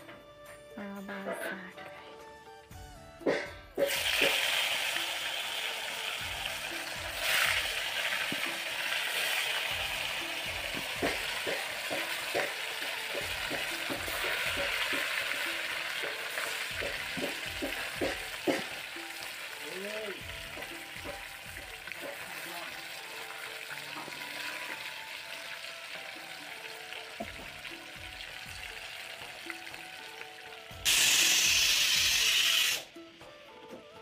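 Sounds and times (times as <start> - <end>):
oil popping and crackling: 3.8 - 32.9
fish sizzling in hot oil: 3.8 - 33.0.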